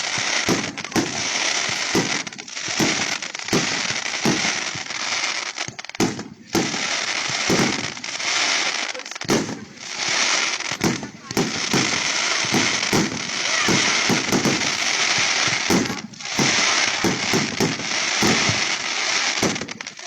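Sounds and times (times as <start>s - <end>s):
firework bangs: 0.0s - 20.0s
fireworks crackling: 0.0s - 20.0s.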